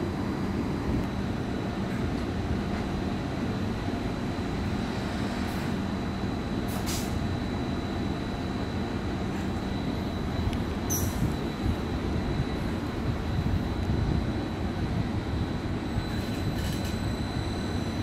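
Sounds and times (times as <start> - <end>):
diesel engine low rumble: 0.0 - 18.0
faint high whine: 0.0 - 18.0.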